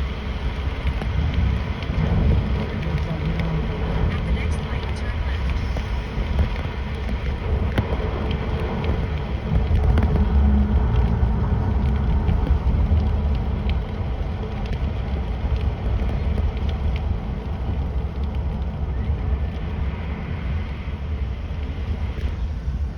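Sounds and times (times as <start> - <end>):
car road rumble: 0.0 - 22.9
raindrops ticking: 0.0 - 22.9.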